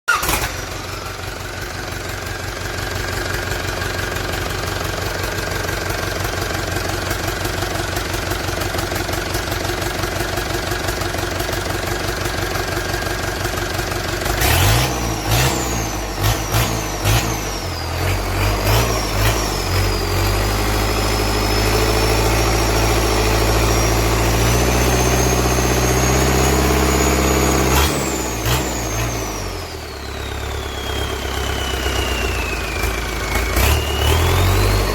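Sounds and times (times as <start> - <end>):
diesel engine idling and revving: 0.0 - 34.9
high engine whine: 0.1 - 34.9.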